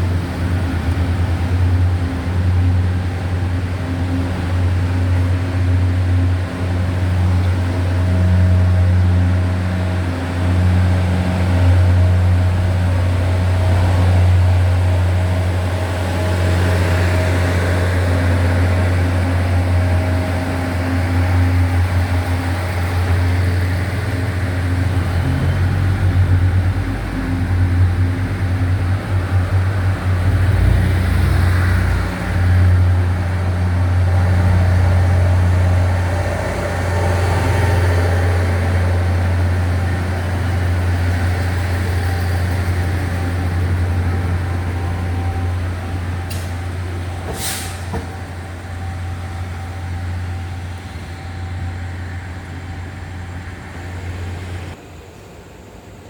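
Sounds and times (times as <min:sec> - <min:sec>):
train running with low hum: 0:00.0 - 0:56.0.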